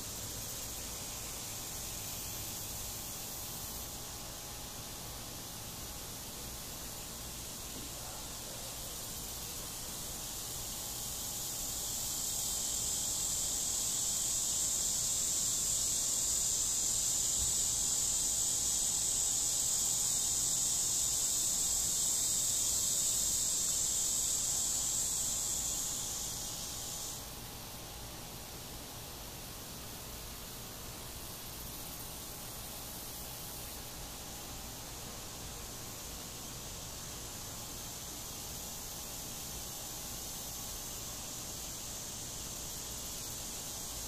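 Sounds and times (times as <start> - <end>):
insect buzzing: 0.0 - 44.0.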